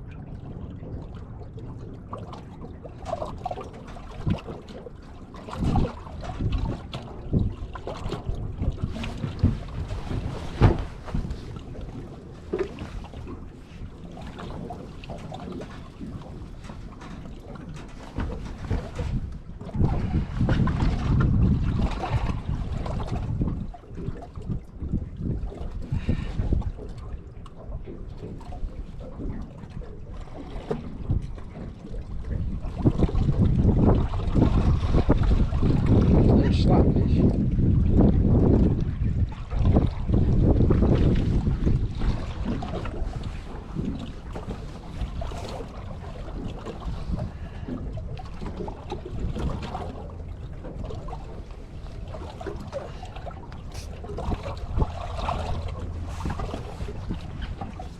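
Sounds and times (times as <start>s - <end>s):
water lapping at hull: 0.0s - 57.9s
wind buffeting microphone: 0.0s - 57.9s.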